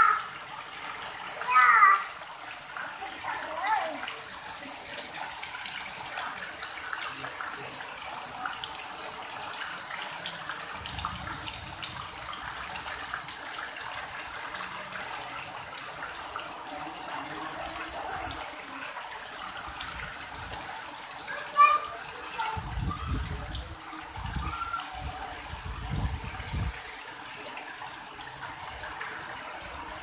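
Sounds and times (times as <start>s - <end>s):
heavy rain on paving: 0.0s - 30.0s.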